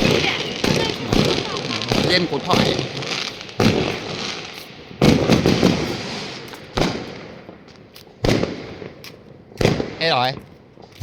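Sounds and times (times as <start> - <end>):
fireworks bangs with echoing rumble: 0.0 - 10.9.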